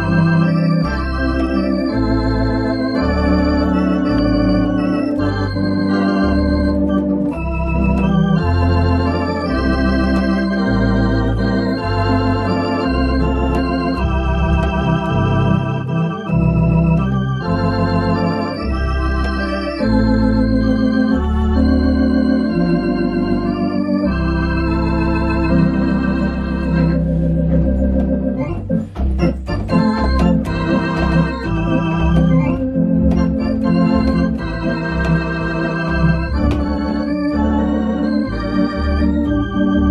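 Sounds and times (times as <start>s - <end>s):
electronic organ playing: 0.0s - 39.9s.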